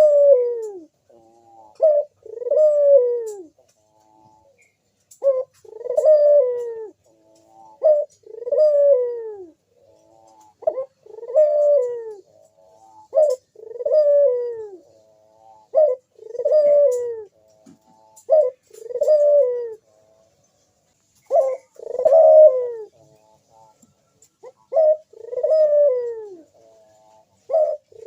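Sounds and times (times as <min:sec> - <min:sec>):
dove cooing: 0:00.0 - 0:20.4, 0:21.2 - 0:28.0.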